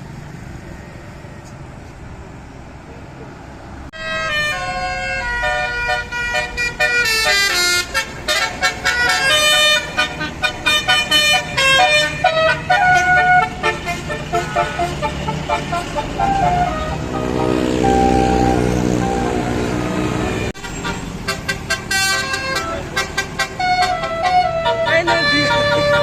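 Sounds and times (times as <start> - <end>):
multi-tone bus horn tune: 3.9 - 26.0.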